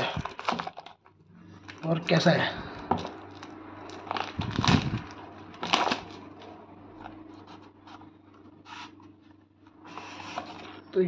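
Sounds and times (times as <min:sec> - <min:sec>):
plastic wrap rustling: 0:00.0 - 0:10.9.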